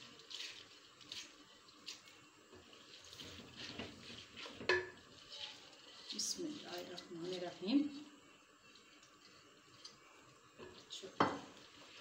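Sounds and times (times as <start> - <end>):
wooden spoon stirring lentils: 0.0 - 12.0.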